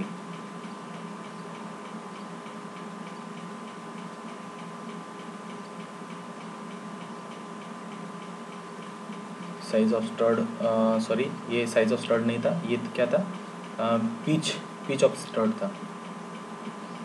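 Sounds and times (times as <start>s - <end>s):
background hum and hiss: 0.0s - 17.0s
faint regular ticking: 0.0s - 17.0s.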